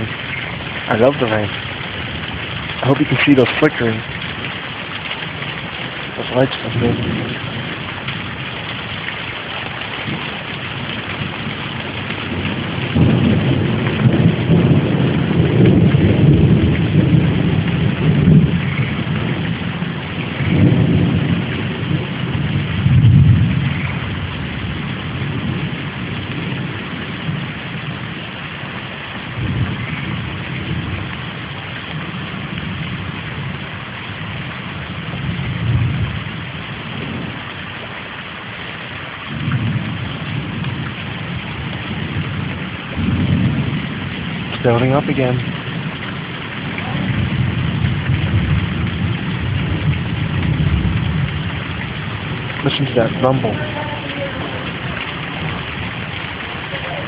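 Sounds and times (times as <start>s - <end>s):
heavy rain falling: 0.0s - 57.0s
thunder rumbling: 0.0s - 57.0s.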